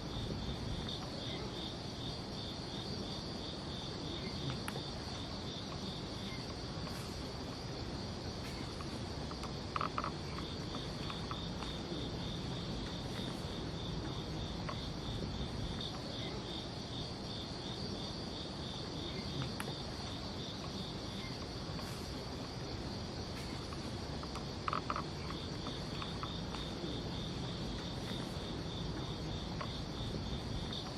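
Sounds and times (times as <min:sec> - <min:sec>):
insect pulsed chirp: 0:00.0 - 0:30.9
low steady noise: 0:00.0 - 0:30.9.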